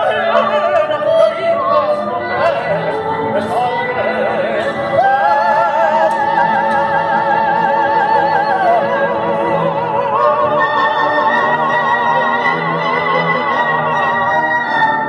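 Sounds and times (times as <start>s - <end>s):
man singing opera: 0.0s - 15.0s
woman singing opera: 0.0s - 15.0s.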